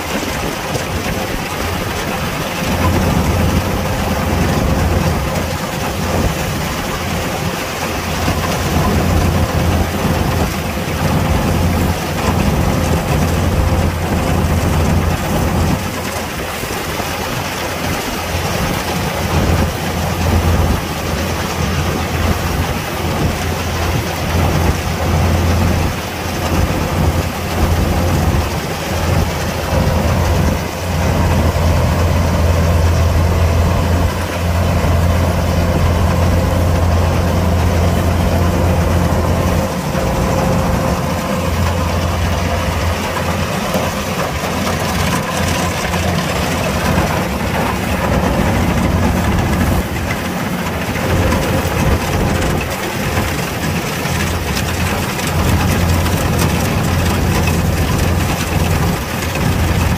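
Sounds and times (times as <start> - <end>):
deep diesel drone: 0.0 - 59.9.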